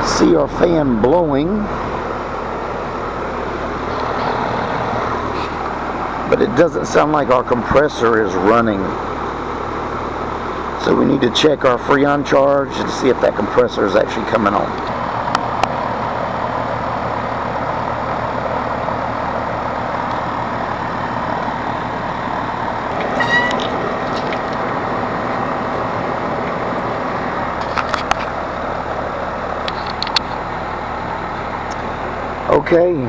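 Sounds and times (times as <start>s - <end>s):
air conditioner fan whooshing: 0.0s - 33.0s.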